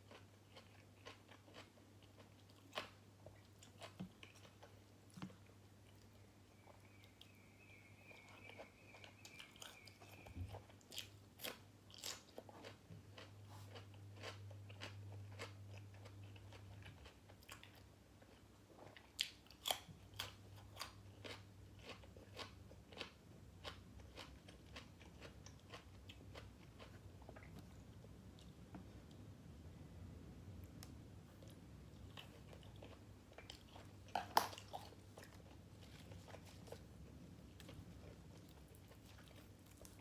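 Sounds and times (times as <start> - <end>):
chewing and crunching food: 0.0 - 29.3, 30.6 - 40.0.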